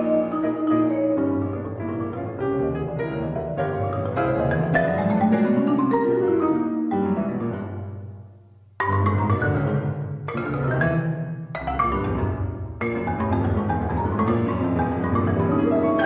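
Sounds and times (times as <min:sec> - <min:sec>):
marimba: 0:00.0 - 0:08.2, 0:08.8 - 0:16.0
grand piano: 0:00.0 - 0:16.0.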